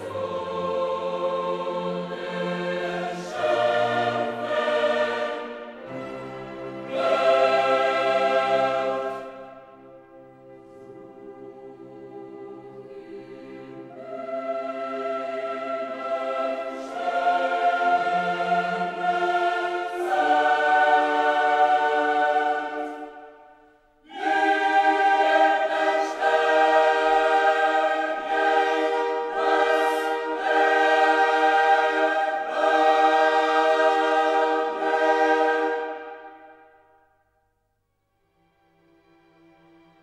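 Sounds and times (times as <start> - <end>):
choir singing held chords: 0.0 - 37.4.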